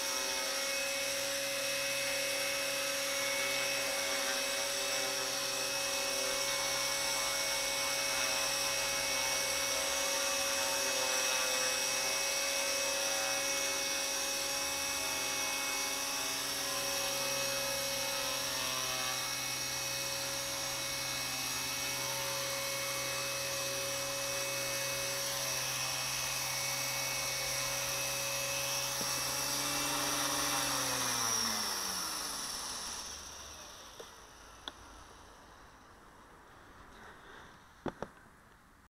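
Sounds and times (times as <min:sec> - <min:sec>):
rotor buzz: 0:00.0 - 0:35.8
rc helicopter motor whine: 0:00.0 - 0:35.9.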